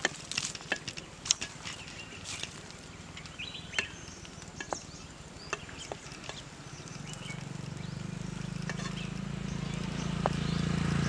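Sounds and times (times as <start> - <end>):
low motor hum: 1.0 - 11.0.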